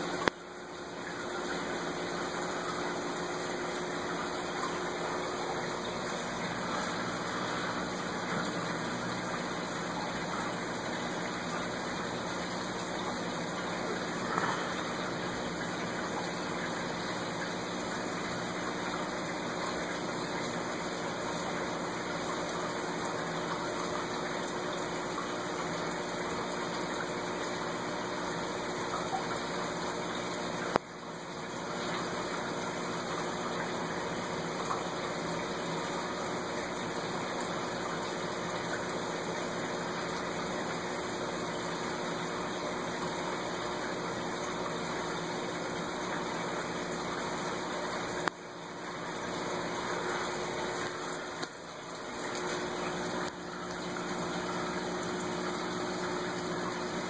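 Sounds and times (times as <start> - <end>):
aquarium filter running: 0.0 - 57.0.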